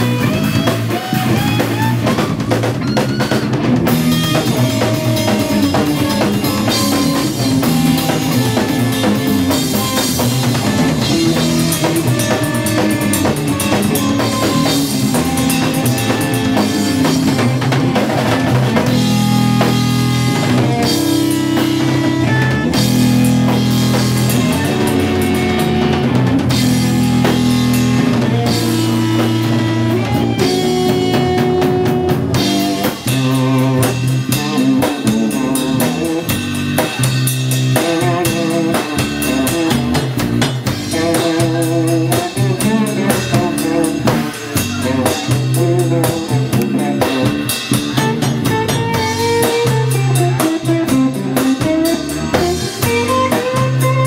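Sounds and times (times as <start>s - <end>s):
drum kit with rimshots: 0.0s - 54.0s
electric guitar: 0.0s - 54.0s.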